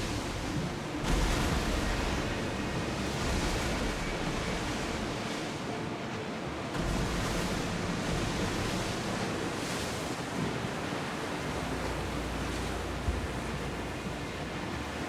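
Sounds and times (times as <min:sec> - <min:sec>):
sea waves rushing: 0:00.0 - 0:15.0.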